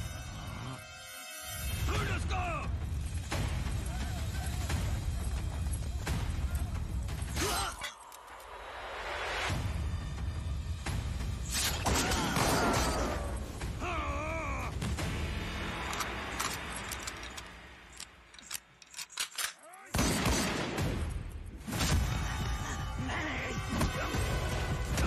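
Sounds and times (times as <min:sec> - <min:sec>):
dramatic music: 0:00.0 - 0:18.6, 0:19.9 - 0:25.0.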